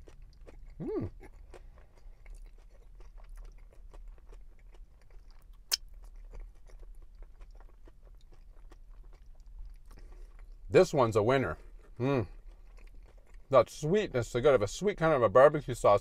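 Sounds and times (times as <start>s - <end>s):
person chewing crunchy food: 0.0s - 10.7s, 11.4s - 13.7s.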